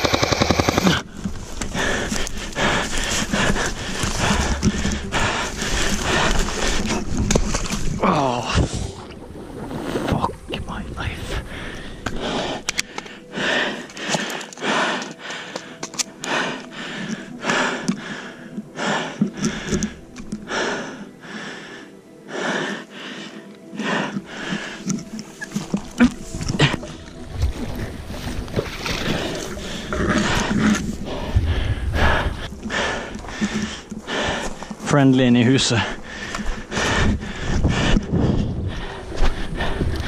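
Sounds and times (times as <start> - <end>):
person breathing hard: 0.0 - 8.9, 11.2 - 34.9, 35.7 - 40.0.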